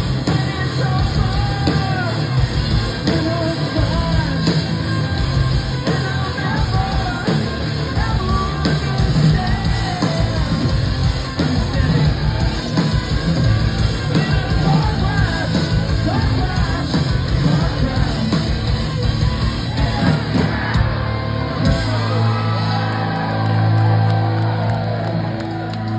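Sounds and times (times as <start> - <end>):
sung and yelled vocals: 0.0 - 24.4
bass guitar: 0.0 - 25.9
distorted electric guitars: 0.0 - 25.9
drums: 0.0 - 25.9.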